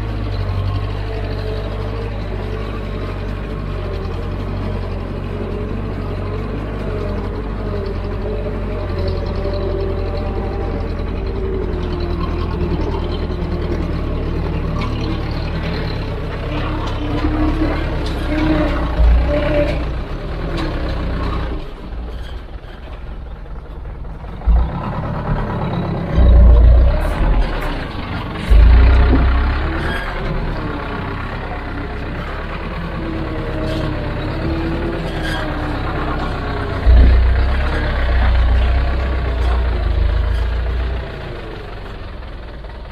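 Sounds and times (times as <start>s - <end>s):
heavy diesel engine running: 0.0s - 42.9s.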